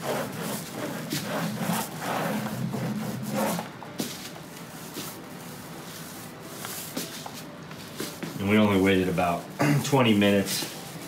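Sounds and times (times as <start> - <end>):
paint roller rubbing: 0.0 - 11.0.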